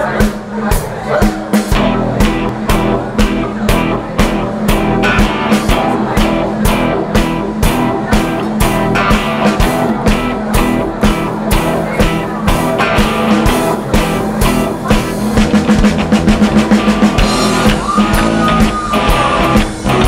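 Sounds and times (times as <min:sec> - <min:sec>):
drum kit beat: 0:00.0 - 0:20.0
guitars playing: 0:01.7 - 0:20.0.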